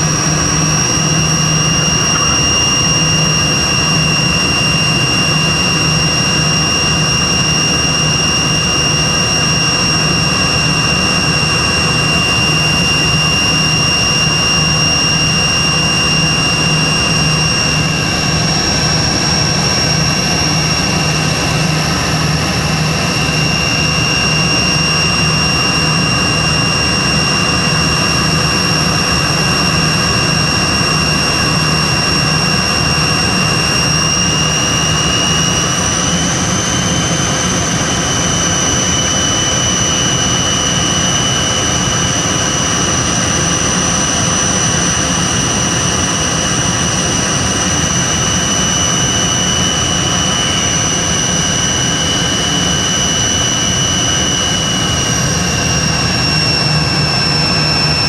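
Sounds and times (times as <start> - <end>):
aircraft cabin air rush: 0.0 - 58.0
high-pitched whines: 0.0 - 58.0
jet engines droning: 0.0 - 58.0.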